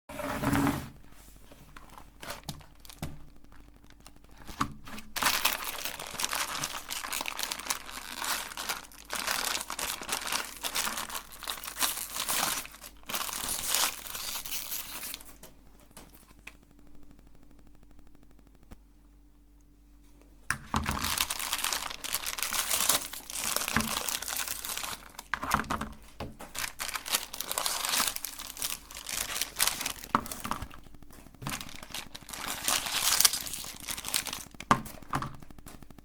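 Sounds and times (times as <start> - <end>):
plastic wrappers crinkling and tearing: 1.5 - 16.6, 20.6 - 36.0.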